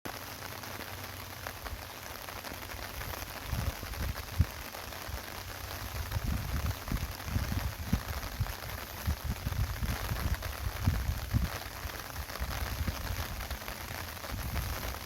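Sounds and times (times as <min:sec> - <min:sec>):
rain falling: 0:00.1 - 0:15.0.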